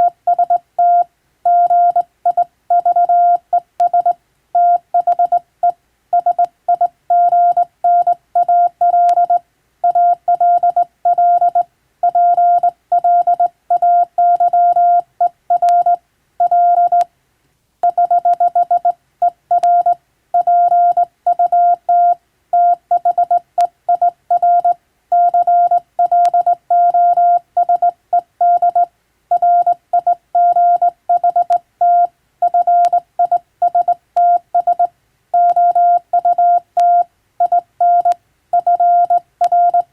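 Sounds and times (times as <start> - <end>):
morse code beeps: 0.0 - 17.0, 17.8 - 39.9.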